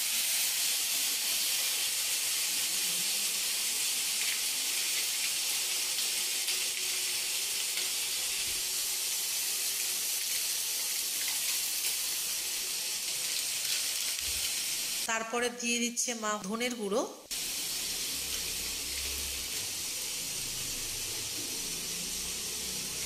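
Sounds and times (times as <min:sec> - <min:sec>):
broccoli frying in oil: 0:00.0 - 0:15.1, 0:17.3 - 0:23.0.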